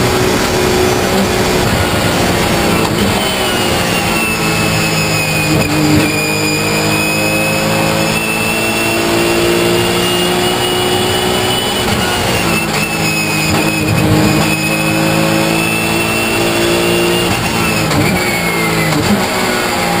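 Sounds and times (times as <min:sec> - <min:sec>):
high whine: 0:00.0 - 0:19.7
race car engine at high revs: 0:00.0 - 0:20.0.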